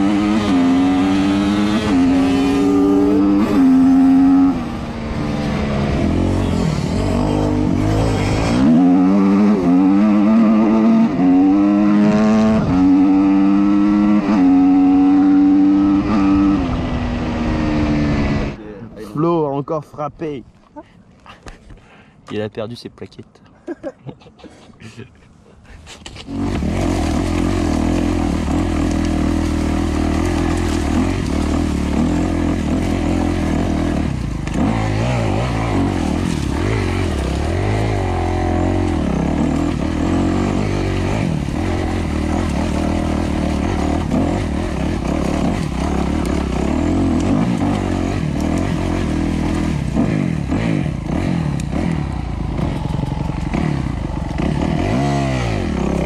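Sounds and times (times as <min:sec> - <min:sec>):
dirt bike engine revving: 0:00.0 - 0:18.6, 0:26.2 - 0:56.0.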